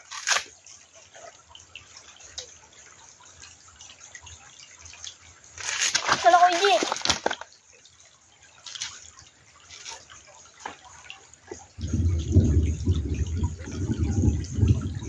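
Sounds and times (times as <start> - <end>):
rushing rumble of water: 0.0 - 15.0
water dripping and splashing: 0.0 - 15.0.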